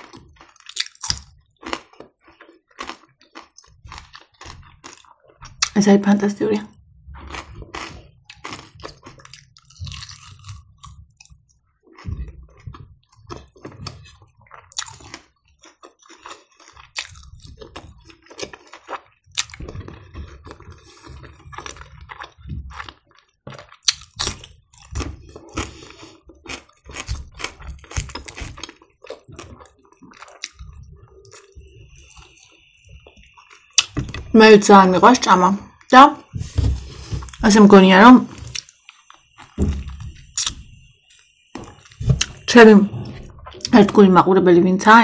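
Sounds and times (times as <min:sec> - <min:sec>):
close chewing with mouth clicks: 0:00.0 - 0:05.8, 0:07.0 - 0:34.3, 0:38.4 - 0:42.5.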